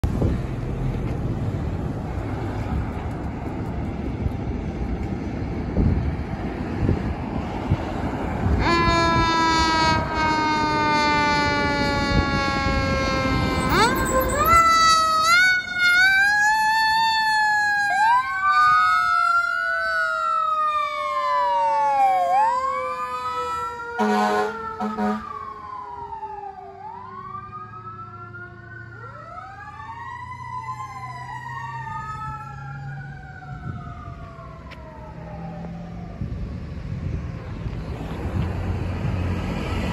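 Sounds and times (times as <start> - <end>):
traffic noise: 0.0 - 39.9
fire engine siren: 4.2 - 37.7, 38.3 - 39.9.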